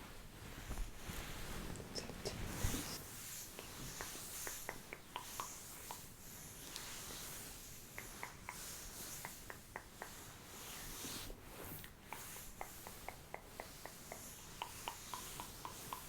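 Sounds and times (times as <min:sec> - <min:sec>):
soft rustle: 0:00.0 - 0:16.0.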